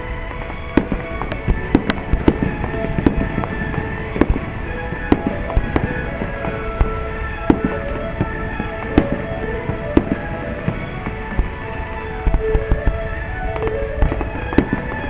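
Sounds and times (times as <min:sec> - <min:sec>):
fireworks booming: 0:00.0 - 0:15.0
music playing: 0:00.0 - 0:15.0.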